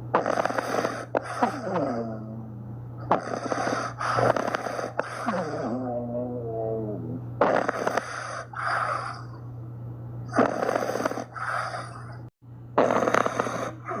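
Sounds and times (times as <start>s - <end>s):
puppies snoring: 0.0s - 9.4s, 10.2s - 14.0s.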